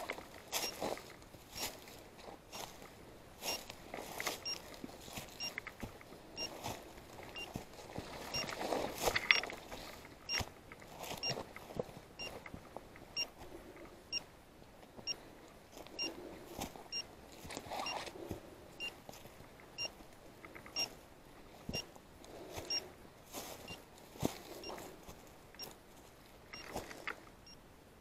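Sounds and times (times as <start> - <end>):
footsteps through dry brush: 0.0 - 13.7, 15.7 - 20.1, 21.5 - 27.2.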